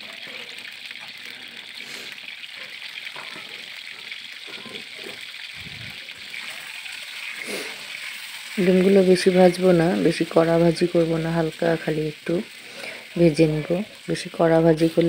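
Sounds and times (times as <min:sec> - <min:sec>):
eggs sizzling in hot oil: 0:00.0 - 0:15.0.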